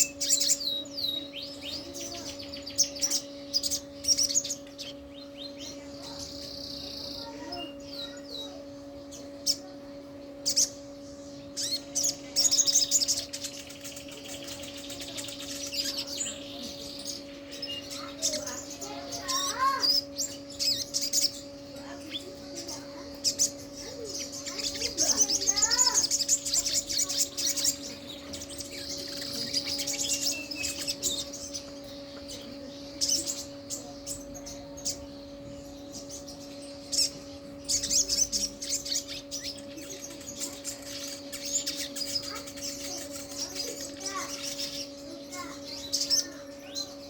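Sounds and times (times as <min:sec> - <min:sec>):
bird chattering chirps and trills: 0:00.0 - 0:47.0
steady low hum: 0:00.0 - 0:47.0.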